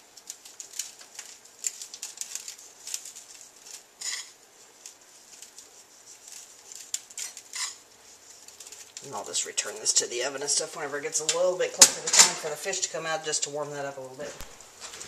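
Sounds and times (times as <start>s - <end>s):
breadcrumbs pattering on pan: 0.0s - 15.0s.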